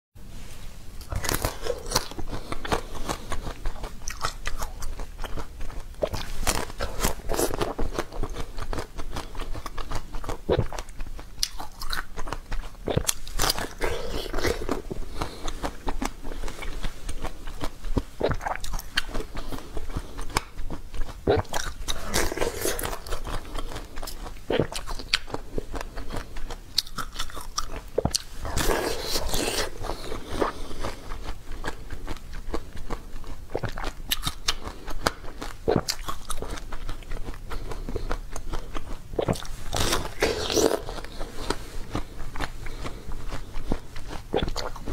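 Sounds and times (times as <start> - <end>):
biting and crunchy chewing: 1.0 - 44.9.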